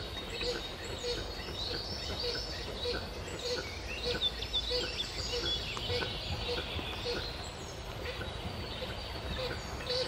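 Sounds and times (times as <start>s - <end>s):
songbirds chirping and singing: 0.0s - 10.0s.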